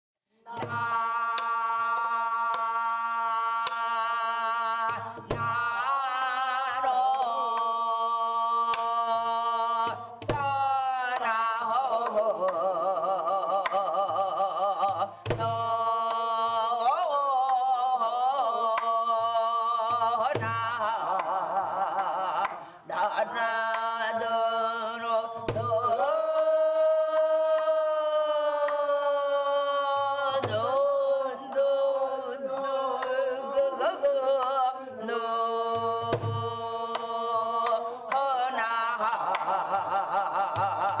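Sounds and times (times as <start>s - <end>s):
woman singing with vibrato: 0.4s - 41.0s.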